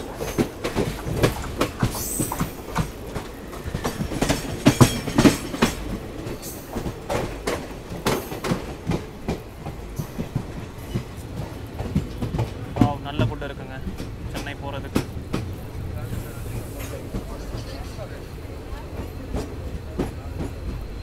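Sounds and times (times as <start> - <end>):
train rumble: 0.0 - 21.0
wheels clattering over rail joints: 0.0 - 21.0.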